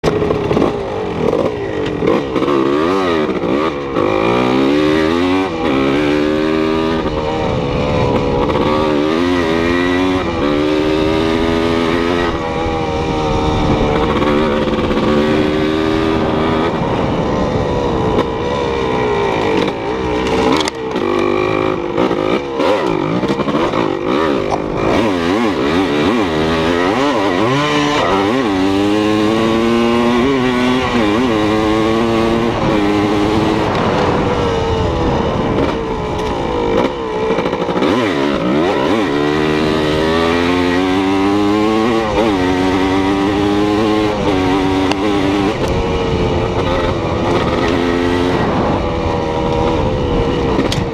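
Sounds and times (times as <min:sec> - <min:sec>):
motor engine revving: 0:00.0 - 0:50.9.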